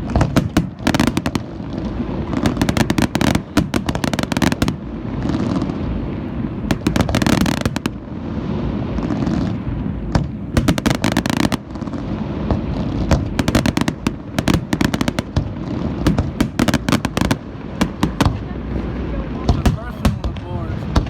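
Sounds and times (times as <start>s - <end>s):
firework bursts crackling: 0.0s - 21.0s
low rumble of booms: 0.0s - 21.0s.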